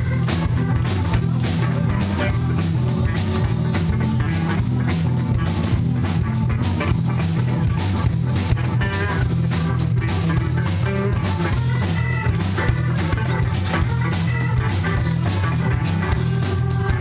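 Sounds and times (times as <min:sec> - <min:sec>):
electric guitar: 0:00.0 - 0:17.0
live blues-rock band: 0:00.0 - 0:17.0.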